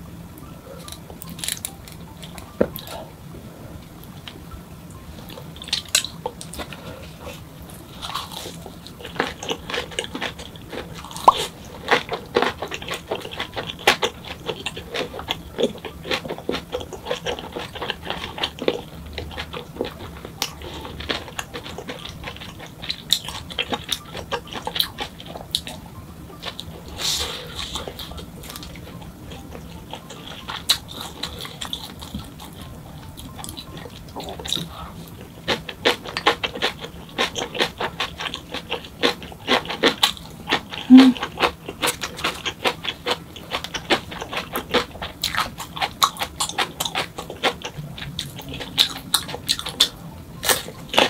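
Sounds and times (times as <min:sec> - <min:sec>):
wet chewing crunches and clicks: 0:07.8 - 0:25.8, 0:27.6 - 0:51.0.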